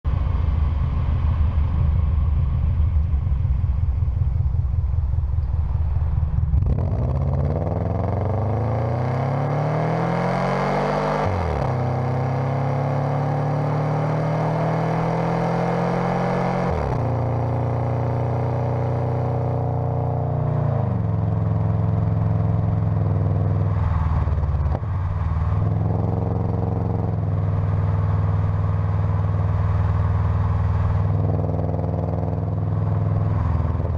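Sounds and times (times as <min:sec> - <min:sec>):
car engine revving through exhaust: 0:00.1 - 0:33.9.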